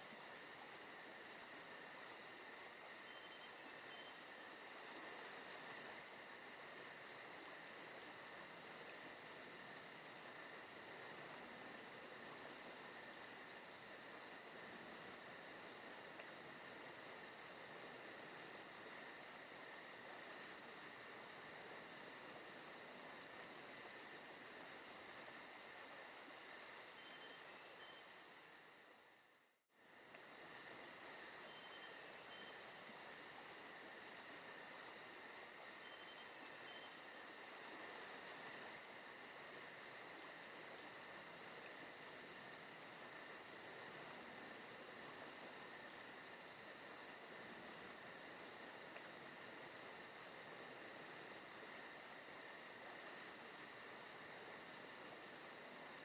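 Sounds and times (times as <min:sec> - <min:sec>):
soft hiss: 0:00.0 - 0:56.0
crickets chirring: 0:00.1 - 0:56.0.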